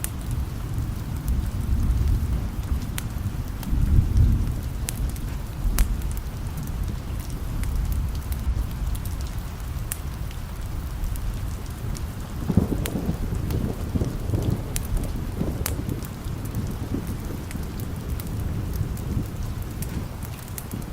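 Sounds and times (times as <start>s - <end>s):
distant thunder rumble: 0.0s - 20.9s
steady rain: 0.0s - 20.9s.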